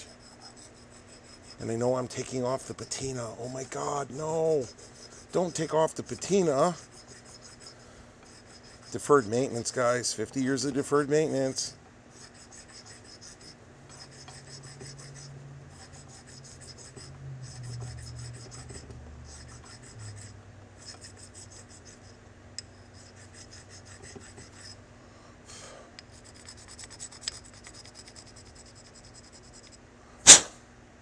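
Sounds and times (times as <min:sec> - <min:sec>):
stone rubbing on steel: 0:00.0 - 0:09.6, 0:12.2 - 0:24.8, 0:26.0 - 0:29.8.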